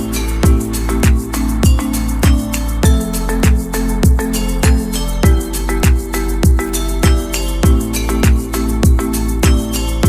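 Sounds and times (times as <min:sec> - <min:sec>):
kick drum beat: 0:00.0 - 0:09.7
held chords: 0:00.0 - 0:10.0.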